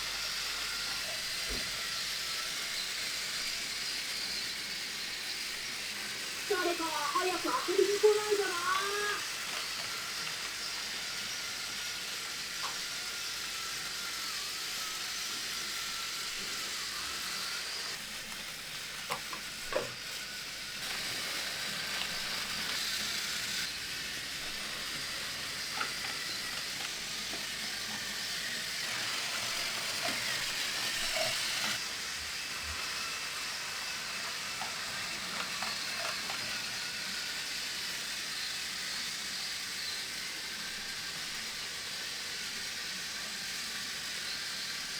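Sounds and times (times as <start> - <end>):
hiss: 0.0 - 44.9
toy train motor whirring: 0.0 - 44.9.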